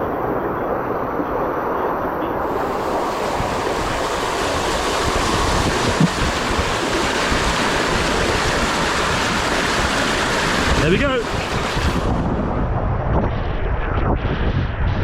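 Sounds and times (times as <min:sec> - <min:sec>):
rushing water: 0:00.0 - 0:12.7.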